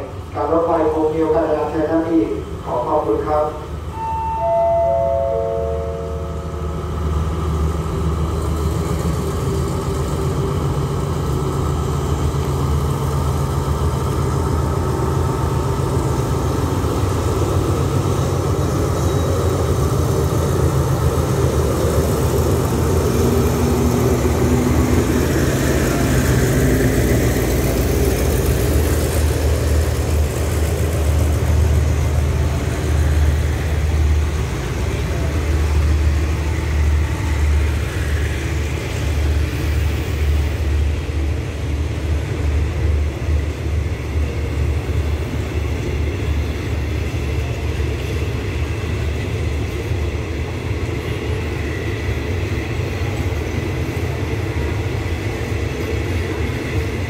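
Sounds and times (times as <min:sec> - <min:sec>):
diesel train engine humming: 0:00.0 - 0:57.0.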